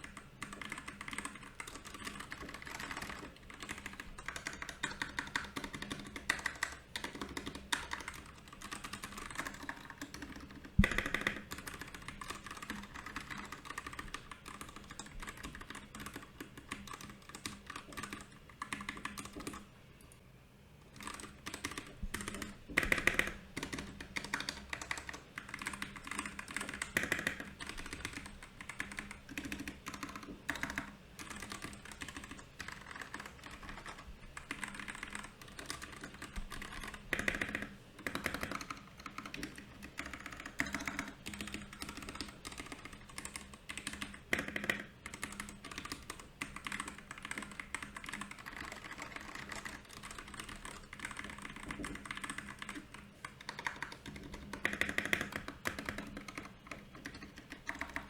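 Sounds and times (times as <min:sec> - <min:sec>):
mechanical keyboard typing: 0:00.0 - 0:19.7, 0:20.9 - 0:58.0.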